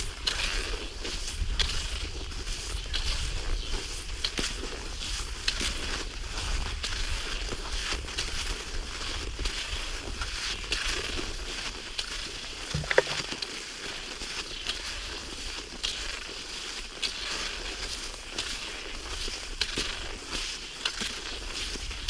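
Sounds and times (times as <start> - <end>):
skis and poles crunching on snow: 0.0 - 22.0.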